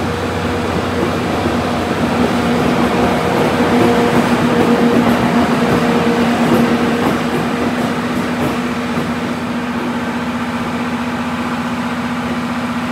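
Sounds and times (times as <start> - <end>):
electric locomotive humming: 0.0 - 12.9.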